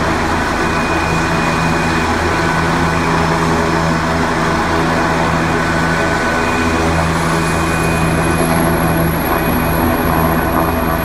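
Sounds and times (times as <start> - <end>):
helicopter rotor roar: 0.0 - 11.0
high turbine whine: 0.0 - 11.0
low hum: 0.0 - 11.0.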